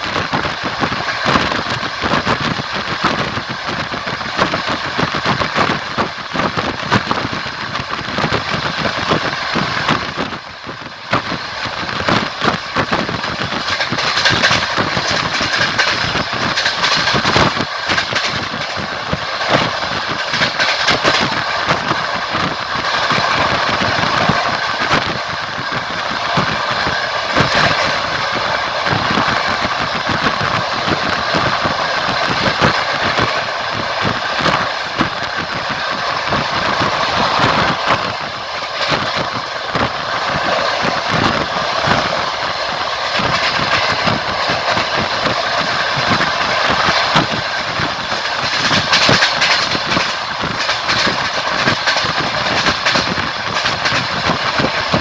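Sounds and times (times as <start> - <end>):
train rolling and rushing: 0.0 - 55.0
wheels clicking over rails: 0.0 - 55.0.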